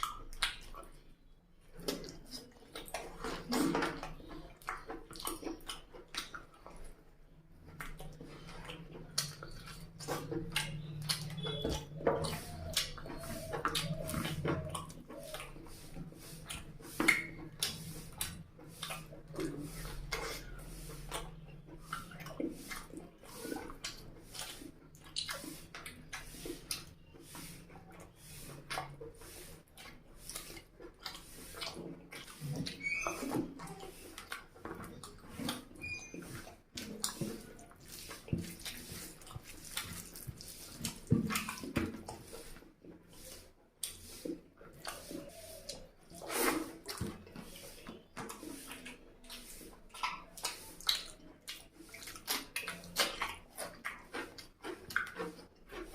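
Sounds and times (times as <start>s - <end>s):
lip-smacking: 0.0s - 55.9s
wet chewing: 0.0s - 55.9s.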